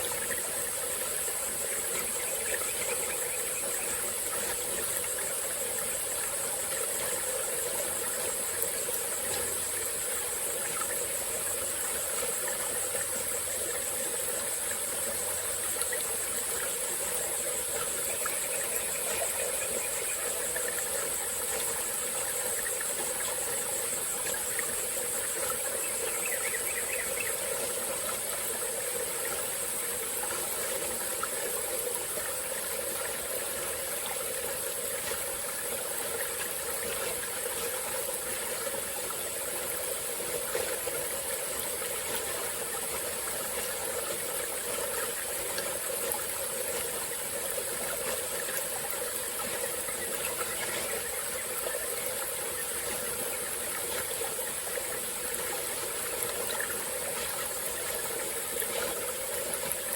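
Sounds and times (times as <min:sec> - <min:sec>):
high-pitched insect chorus: 0:00.0 - 0:59.9
stream flowing: 0:00.0 - 0:59.9.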